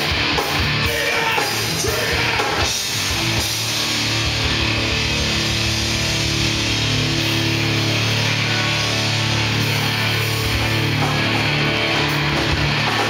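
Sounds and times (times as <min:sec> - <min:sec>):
live rock band playing heavy music: 0:00.0 - 0:13.0.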